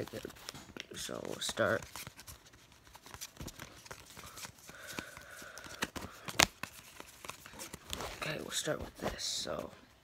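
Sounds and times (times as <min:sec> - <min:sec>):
trading cards clicking and rustling: 0:00.0 - 0:09.7.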